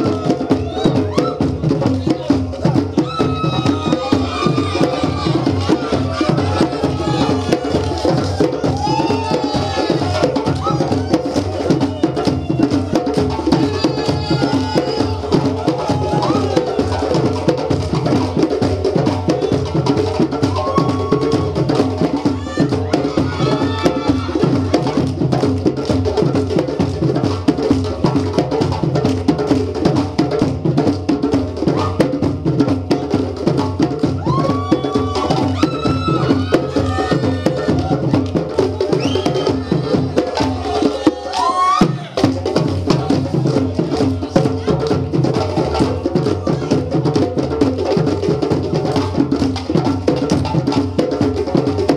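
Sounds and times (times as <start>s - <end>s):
djembe drums playing: 0.0s - 51.9s.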